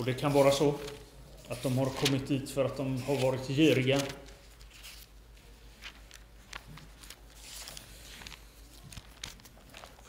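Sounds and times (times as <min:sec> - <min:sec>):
thin pages being leafed through: 0:00.2 - 0:10.0.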